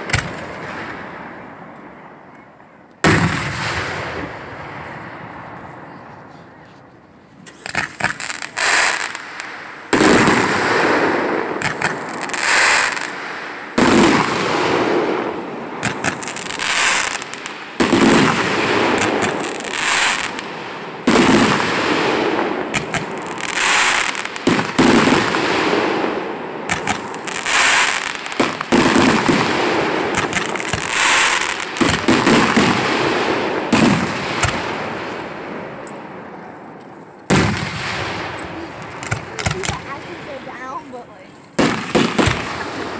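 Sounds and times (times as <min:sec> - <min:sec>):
fireworks crackling: 0:00.0 - 0:01.9, 0:03.0 - 0:42.9
fireworks bangs: 0:00.0 - 0:42.9.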